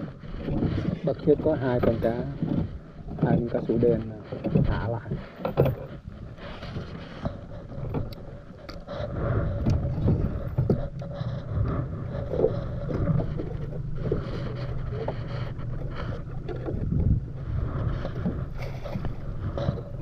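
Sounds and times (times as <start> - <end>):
boat motor running: 0.0 - 20.0
wind on microphone: 0.0 - 20.0.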